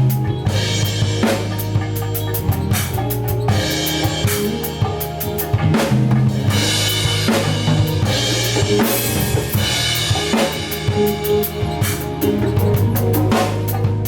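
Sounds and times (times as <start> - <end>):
drum kit hits: 0.0 - 14.0
low bass notes: 0.0 - 14.0.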